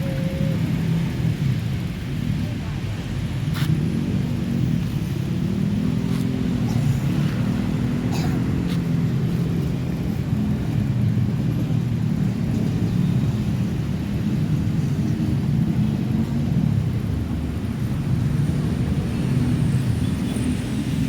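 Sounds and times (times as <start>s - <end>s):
vehicle engine running: 0.0s - 19.9s.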